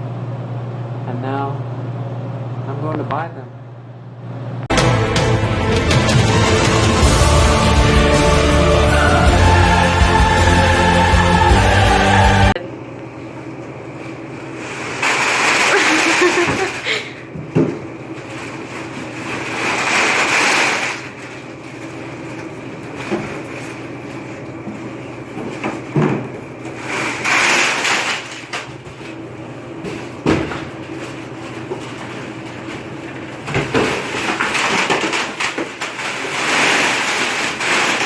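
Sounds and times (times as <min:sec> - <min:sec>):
vending machine humming: 0:00.0 - 0:38.0.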